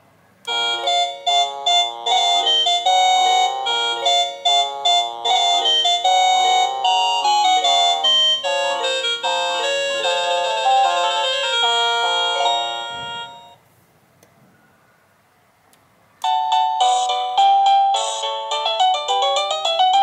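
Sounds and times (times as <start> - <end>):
electronic doorbell chime melody: 0.5 - 13.6, 16.2 - 20.0.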